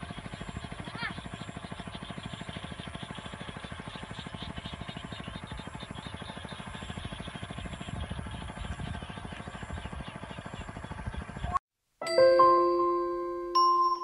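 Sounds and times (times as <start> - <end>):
small engine puttering: 0.0 - 11.6.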